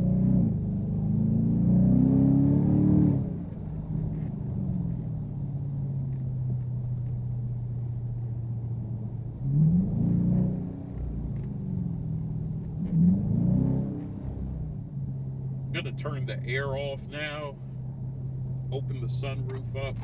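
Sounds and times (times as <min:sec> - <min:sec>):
car engine: 0:00.0 - 0:20.0
road noise inside car: 0:00.0 - 0:20.0.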